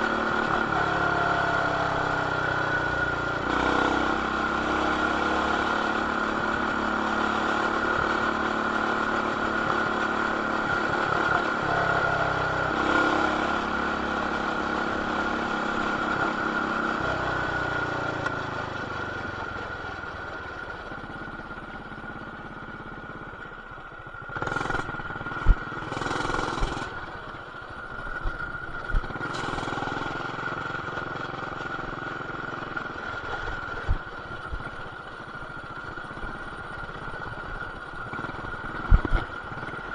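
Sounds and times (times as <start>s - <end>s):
muffled mini bike engine: 0.0s - 39.9s.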